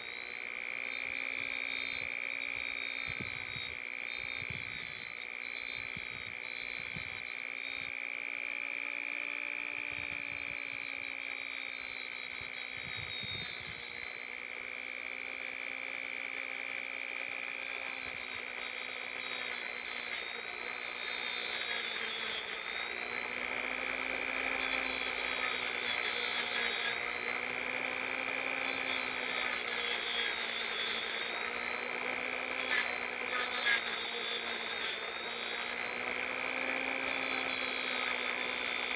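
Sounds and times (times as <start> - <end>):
electric rotary tool on metal: 0.0 - 38.9.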